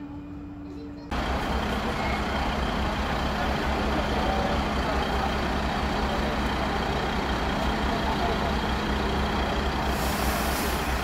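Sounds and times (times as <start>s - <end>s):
diesel engines idling: 1.1s - 11.0s
street noise hiss: 1.1s - 11.0s.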